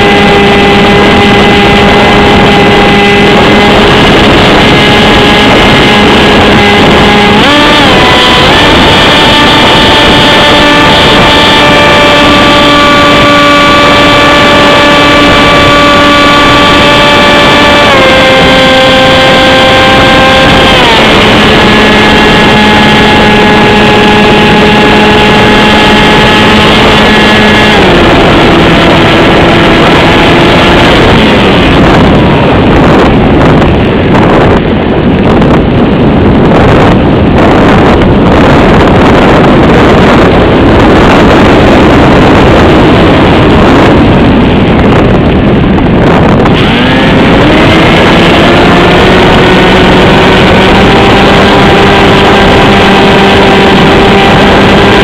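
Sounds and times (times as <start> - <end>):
electric motor and propeller whining: 0.0 - 55.0
wind rush on microphone: 0.0 - 55.0.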